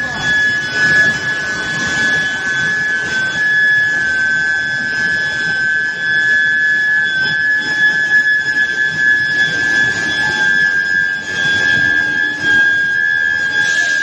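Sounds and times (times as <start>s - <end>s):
constant machine noise: 0.0s - 14.0s
high-pitched furnace whine: 0.0s - 14.0s.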